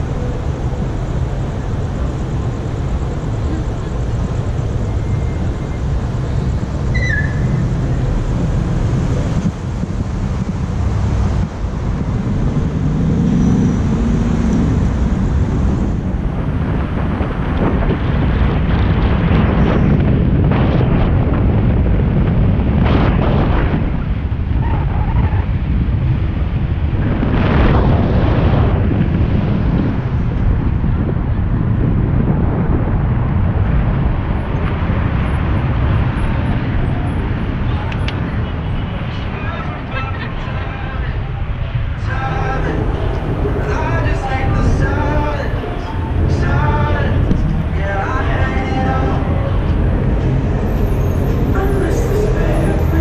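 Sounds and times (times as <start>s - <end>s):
road noise: 0.0s - 53.0s
wind on microphone: 0.0s - 53.0s.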